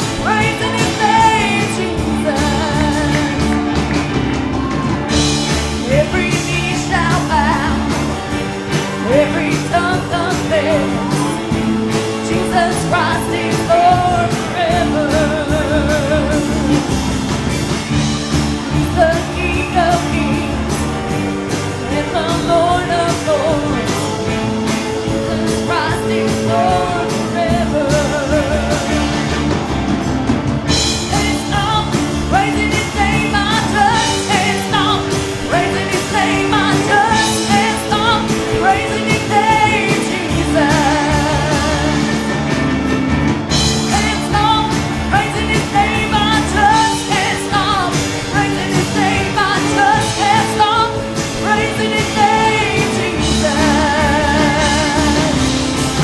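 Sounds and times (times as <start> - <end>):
people singing with a band: 0.0 - 56.0
steady drum beat: 0.0 - 56.0.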